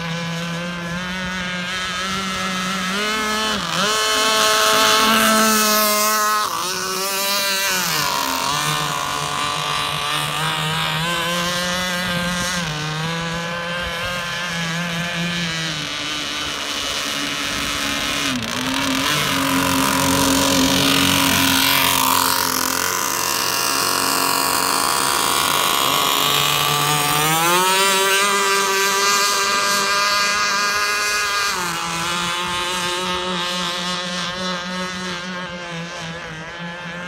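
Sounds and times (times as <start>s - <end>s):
rc boat engine at high revs: 0.0s - 37.0s.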